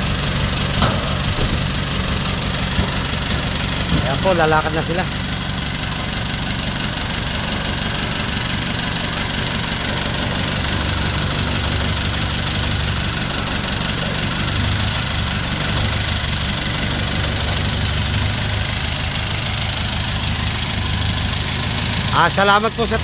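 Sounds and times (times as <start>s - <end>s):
jeep engine idling: 0.0s - 23.0s.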